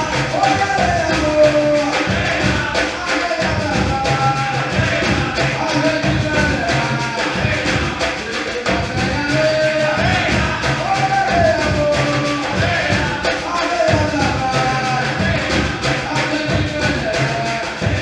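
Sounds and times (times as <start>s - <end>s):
percussion group playing: 0.0s - 18.0s
person singing: 0.0s - 18.0s.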